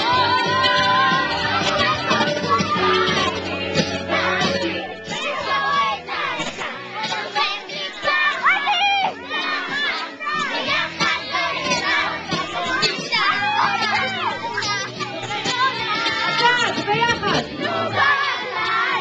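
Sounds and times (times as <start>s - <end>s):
children shouting and singing: 0.0s - 19.0s
party music: 0.0s - 19.0s.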